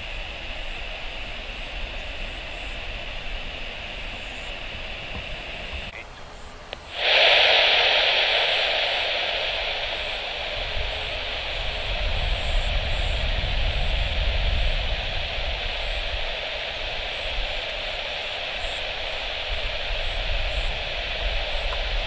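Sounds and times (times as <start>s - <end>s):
radio channel hiss: 0.0s - 22.0s
turboprop engines running: 0.0s - 22.0s.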